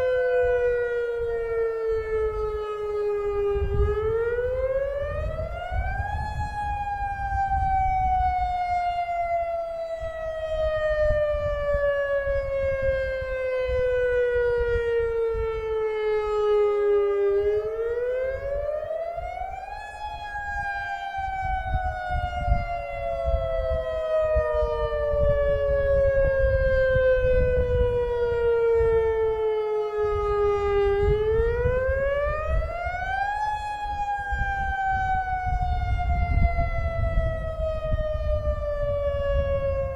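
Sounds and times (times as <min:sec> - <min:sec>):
warning siren rising and falling: 0:00.0 - 0:39.9.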